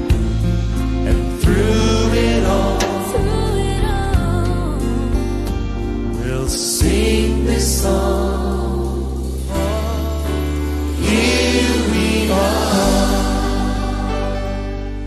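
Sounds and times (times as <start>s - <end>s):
instrumental backing: 0.0s - 15.0s
sustained bass notes: 0.0s - 15.0s
lead singer and choir singing: 1.1s - 4.9s, 6.3s - 15.0s.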